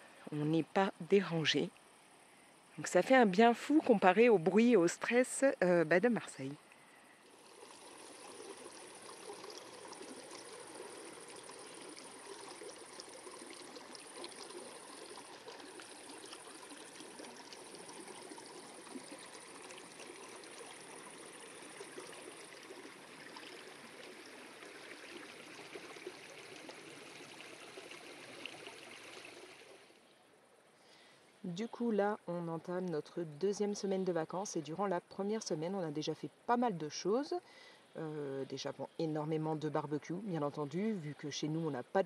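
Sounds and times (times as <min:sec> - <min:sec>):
stream trickling over stones: 0:02.8 - 0:42.0.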